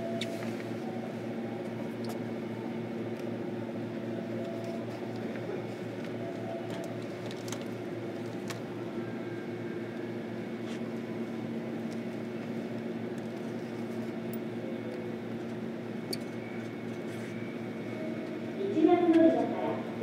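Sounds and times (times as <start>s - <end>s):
electric train motor hum: 0.0s - 20.0s.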